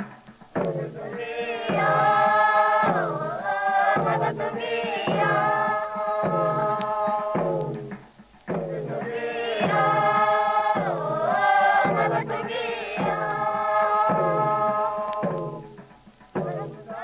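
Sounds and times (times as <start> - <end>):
group chanting a song: 0.6 - 17.0.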